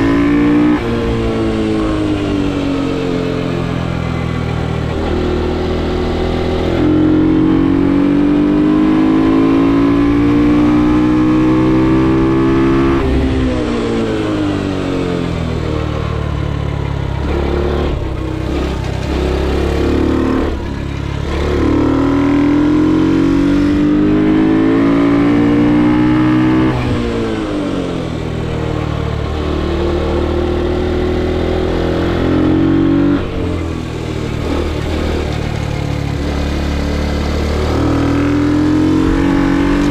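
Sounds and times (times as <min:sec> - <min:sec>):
motorcycle engine at full throttle: 0:00.0 - 0:39.9.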